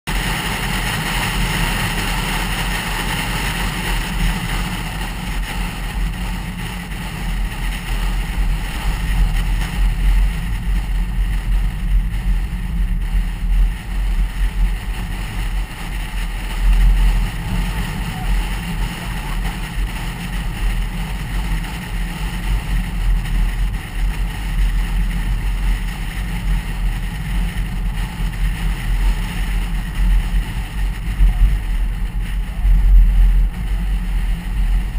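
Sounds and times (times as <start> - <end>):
car interior road rumble: 0.1 - 34.9.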